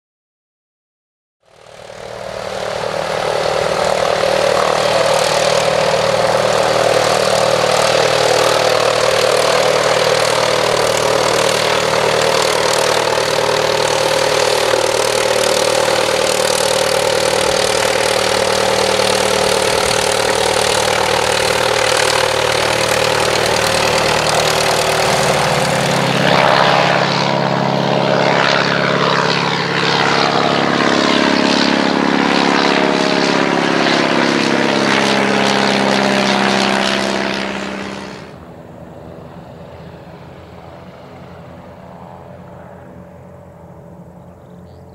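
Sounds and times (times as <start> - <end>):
propeller plane engine running: 1.4 - 44.9.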